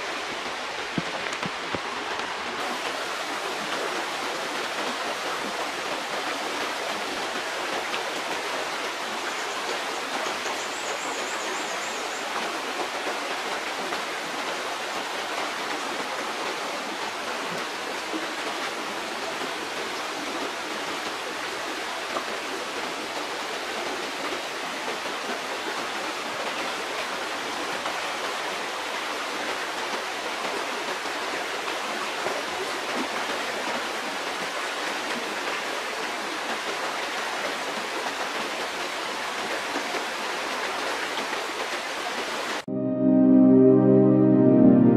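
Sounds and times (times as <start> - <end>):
stream water rushing: 0.0 - 42.7.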